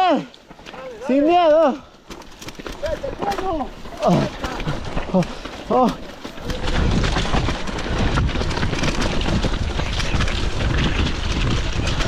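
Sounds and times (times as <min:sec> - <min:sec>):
debris flow rumble: 0:00.5 - 0:12.0
rocks knocking: 0:02.0 - 0:12.0.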